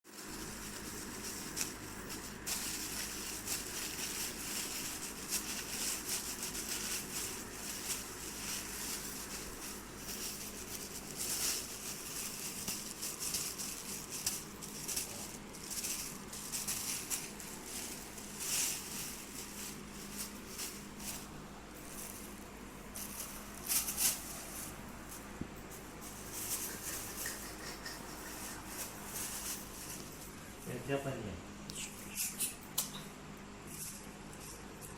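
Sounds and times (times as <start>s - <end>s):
thin plastic crinkling: 0.1s - 30.4s.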